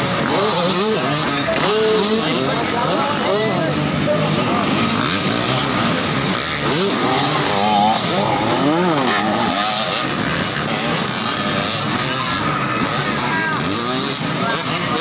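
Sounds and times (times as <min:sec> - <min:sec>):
motorcycle engines revving: 0:00.0 - 0:15.0
noisy background: 0:00.0 - 0:15.0.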